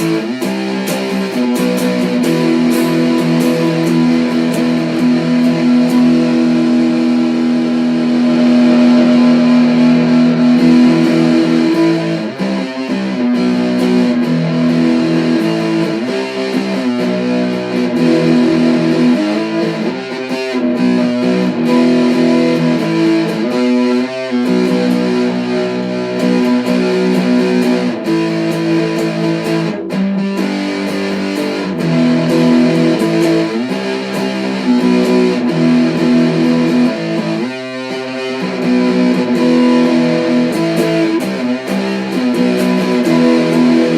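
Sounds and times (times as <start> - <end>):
electric guitar instrumental music: 0.0 - 43.9.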